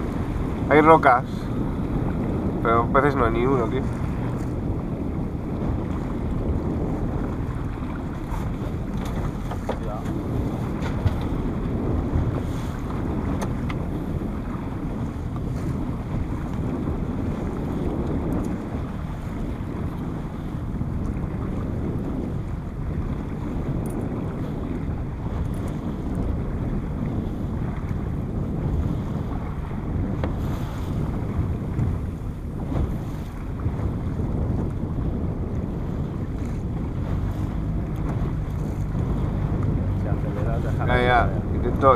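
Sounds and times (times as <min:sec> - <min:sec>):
motorboat rumble: 0:00.0 - 0:41.9
water rushing past hull: 0:00.0 - 0:41.9
wind buffeting microphone: 0:00.0 - 0:41.9.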